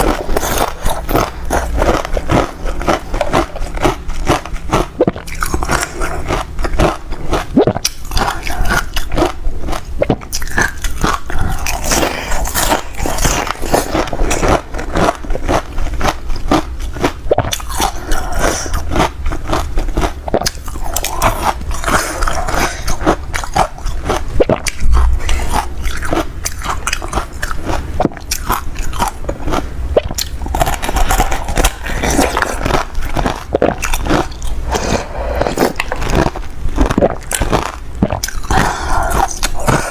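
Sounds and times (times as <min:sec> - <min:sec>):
chewing ice crunching: 0:00.0 - 0:39.9.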